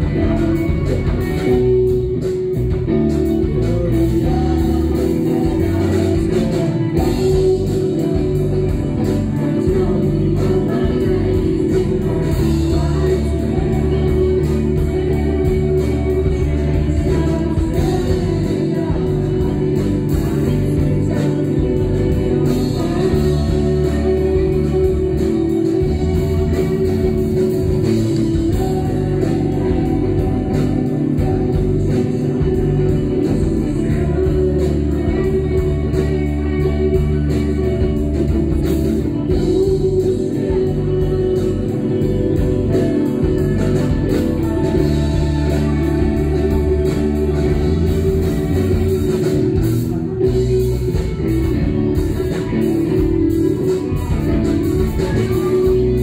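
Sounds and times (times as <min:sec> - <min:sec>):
bass guitar: 0:00.0 - 0:56.0
drum kit: 0:00.0 - 0:56.0
electric guitars: 0:00.0 - 0:56.0
person singing: 0:00.0 - 0:56.0.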